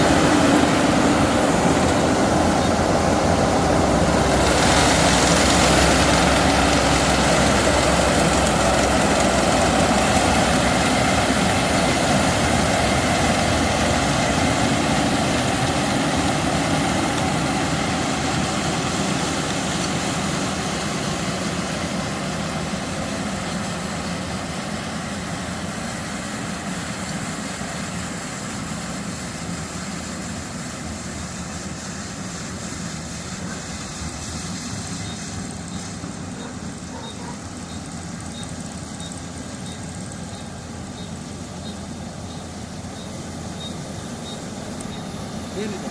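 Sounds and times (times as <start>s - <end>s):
combine harvester running: 0.0s - 45.9s.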